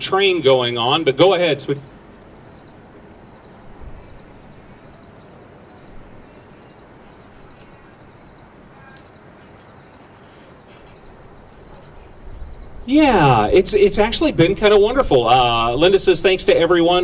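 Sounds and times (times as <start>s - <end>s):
faint high chirping: 0.0s - 13.8s
distant train rumbling: 0.0s - 17.0s
open-air background noise: 0.0s - 17.0s.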